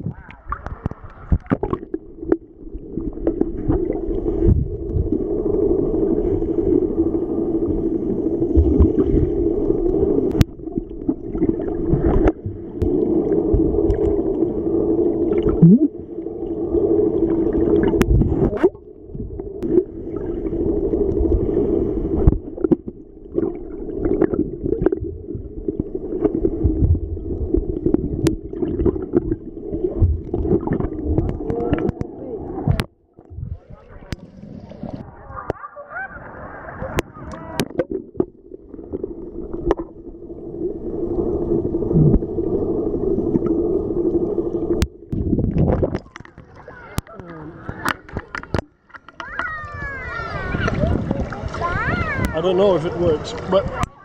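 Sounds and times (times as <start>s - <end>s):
muffled underwater hum: 0.0s - 52.4s.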